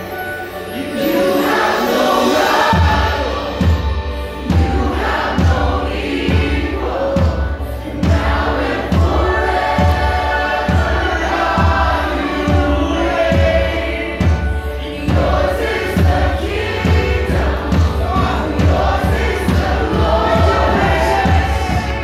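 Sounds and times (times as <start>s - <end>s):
worship band with choir: 0.0s - 22.0s
drum kit beat: 2.2s - 22.0s.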